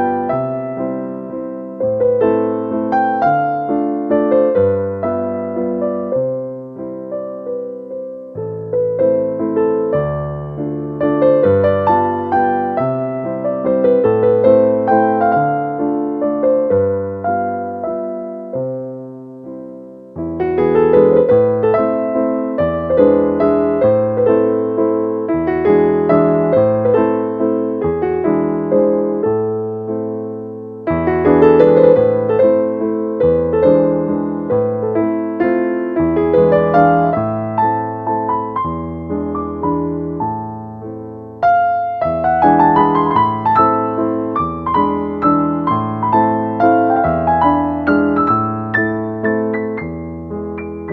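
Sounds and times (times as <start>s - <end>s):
gentle piano music: 0.0s - 50.9s.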